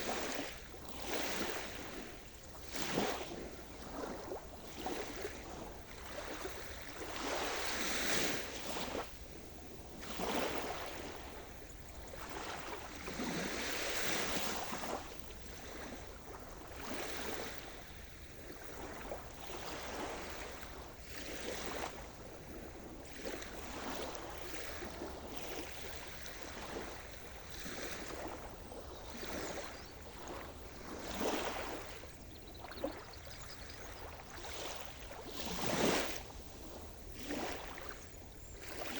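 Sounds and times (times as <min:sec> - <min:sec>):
small waves washing in: 0:00.0 - 0:38.9.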